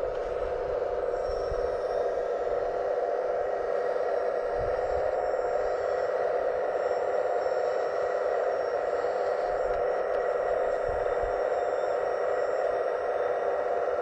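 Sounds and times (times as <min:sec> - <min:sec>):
pump motor whining: 0:00.0 - 0:14.0.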